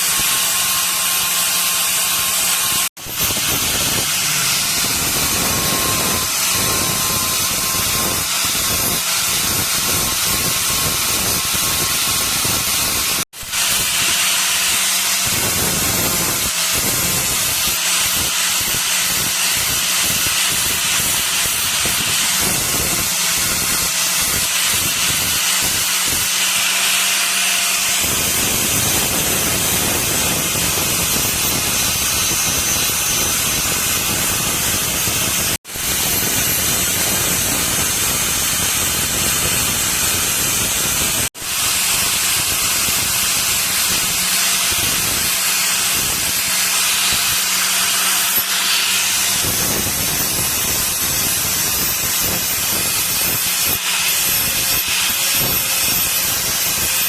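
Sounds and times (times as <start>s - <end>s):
loud rushing hiss: 0.0s - 57.0s.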